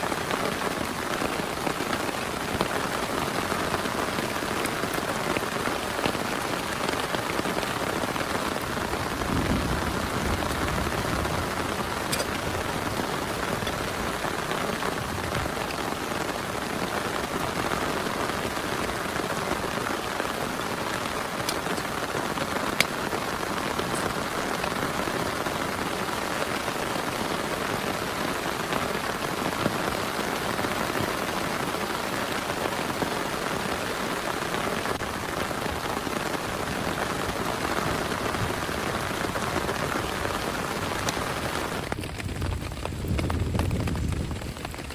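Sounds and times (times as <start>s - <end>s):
heavy rain falling: 0.0s - 44.9s
sharp raindrop impacts: 0.0s - 44.9s.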